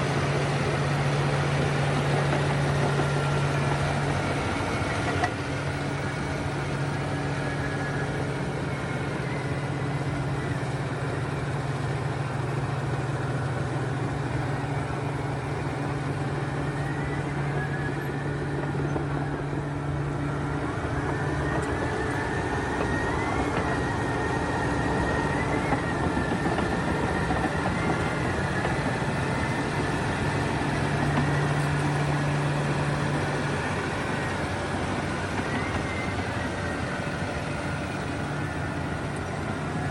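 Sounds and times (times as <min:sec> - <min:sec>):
engine running with low hum: 0:00.0 - 0:39.9.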